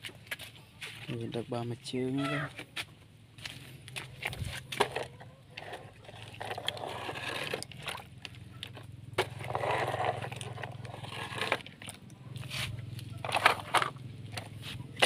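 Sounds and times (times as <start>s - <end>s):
toy scraping on gritty concrete: 2.2s - 15.0s.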